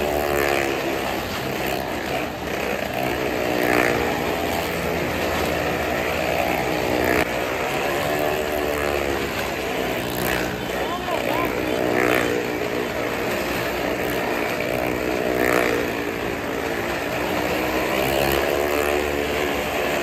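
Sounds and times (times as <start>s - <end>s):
motorcycle engine running hard: 0.0s - 20.0s
wooden walls rumbling under tyres: 0.0s - 20.0s.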